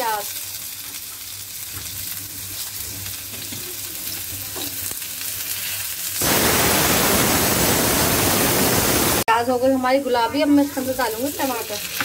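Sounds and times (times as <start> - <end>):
onion and potatoes sizzling in oil: 0.0 - 12.0.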